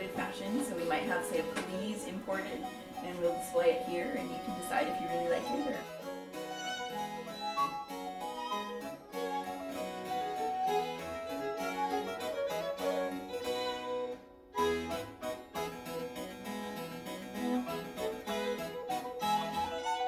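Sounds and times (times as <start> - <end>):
harpsichord music: 0.0 - 20.0.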